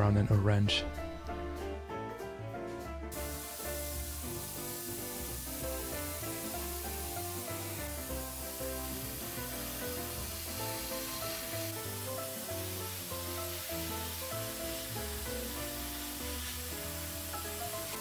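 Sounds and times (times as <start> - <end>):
airbrush hissing: 3.1 - 18.0.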